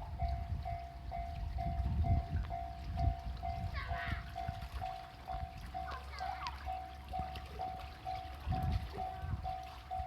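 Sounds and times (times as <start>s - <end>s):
level crossing warning bell: 0.0s - 10.0s.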